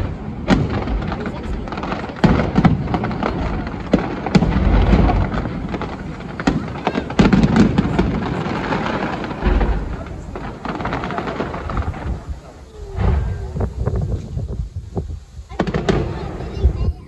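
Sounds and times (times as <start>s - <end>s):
deep fireworks booms: 0.0s - 17.0s
fireworks cracks and pops: 0.0s - 17.0s.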